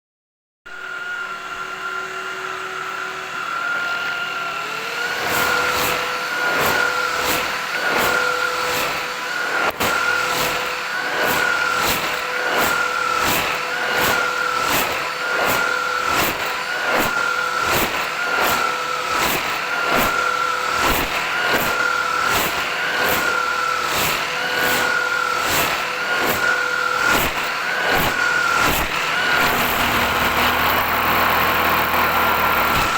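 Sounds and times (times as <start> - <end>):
vacuum cleaner motor whine: 0.7 - 32.9.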